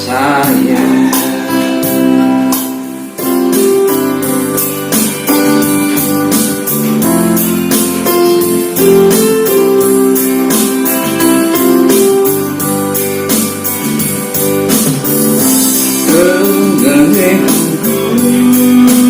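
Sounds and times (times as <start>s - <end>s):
pop ballad with keyboard and guitar: 0.0s - 19.0s.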